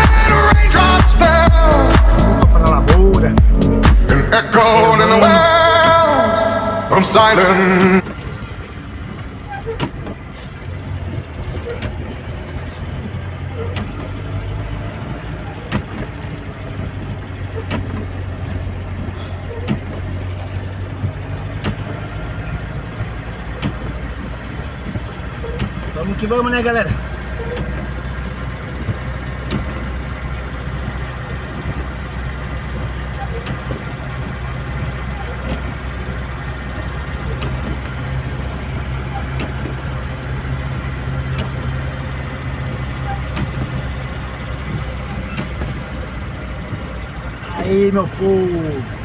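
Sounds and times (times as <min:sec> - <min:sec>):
low hum: 0:00.0 - 0:49.0
wind: 0:00.0 - 0:49.0.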